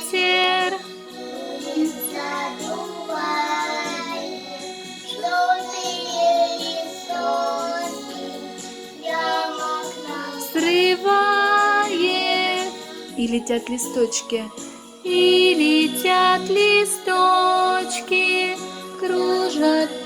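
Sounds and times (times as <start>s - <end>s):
children singing: 0.0s - 13.2s, 16.4s - 20.0s.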